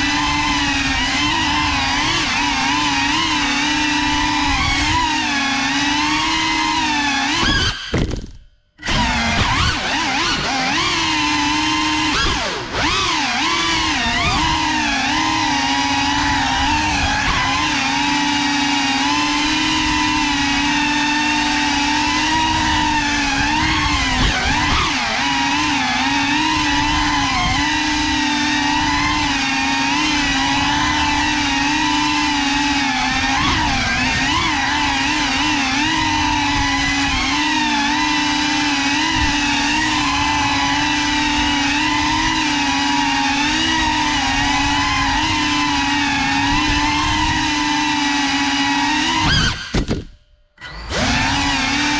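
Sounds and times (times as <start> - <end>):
drone propellers whining: 0.0 - 51.9.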